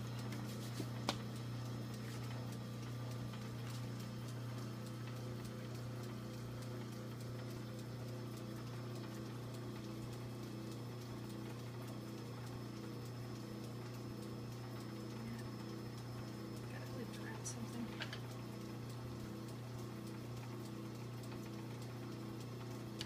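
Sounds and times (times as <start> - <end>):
low electrical hum: 0.0 - 23.0
light irregular ticks: 0.1 - 23.0.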